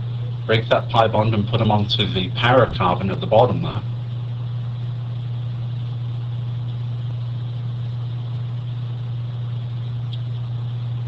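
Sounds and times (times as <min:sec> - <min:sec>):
constant hiss: 0:00.0 - 0:11.0
low electrical hum: 0:00.0 - 0:11.0.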